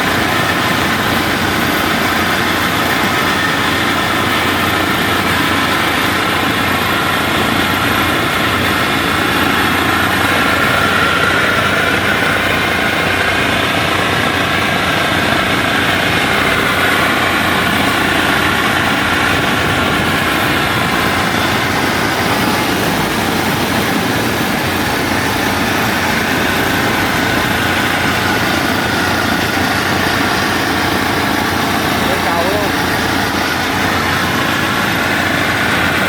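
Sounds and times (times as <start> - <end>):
combine harvester diesel engine: 0.0 - 36.0
following vehicle running: 0.0 - 36.0.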